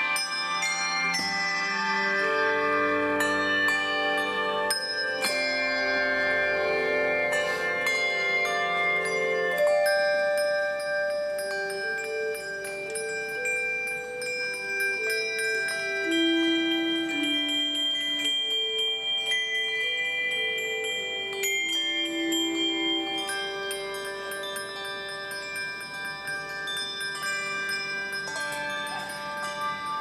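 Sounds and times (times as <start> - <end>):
handbells playing slow melody: 0.0 - 30.0.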